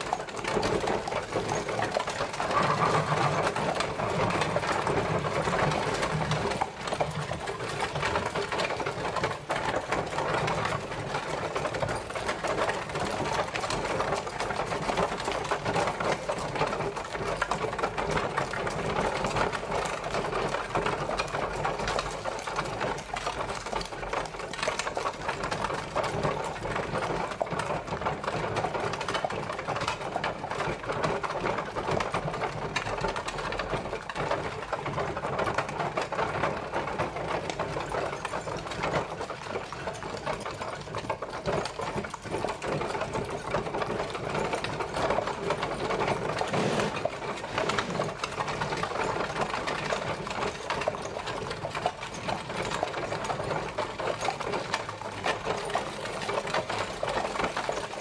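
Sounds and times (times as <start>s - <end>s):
horse-drawn carriage rattling: 0.0s - 58.0s.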